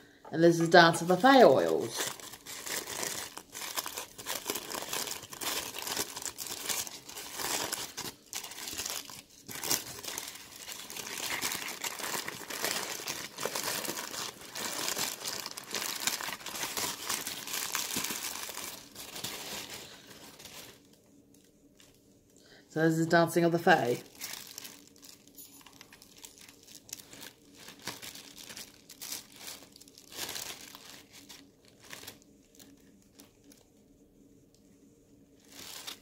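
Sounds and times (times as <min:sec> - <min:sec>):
tissue paper crinkling: 0:00.4 - 0:22.0, 0:23.6 - 0:33.8, 0:35.3 - 0:36.0.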